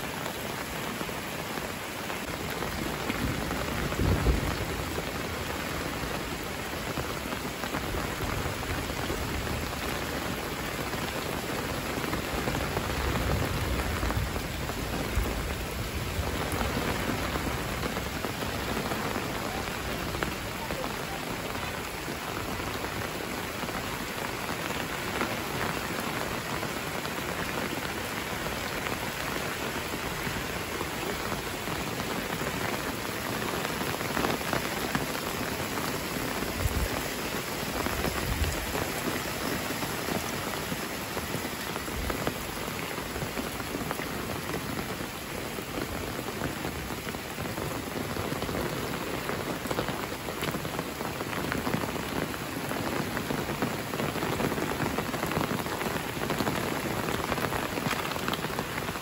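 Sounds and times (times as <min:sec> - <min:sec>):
steady rain pouring: 0:00.0 - 0:59.0.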